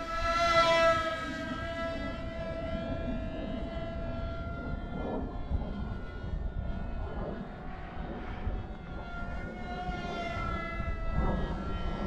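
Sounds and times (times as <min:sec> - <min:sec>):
model plane motor whining: 0:00.0 - 0:12.0
wind rumble on microphone: 0:00.0 - 0:12.0.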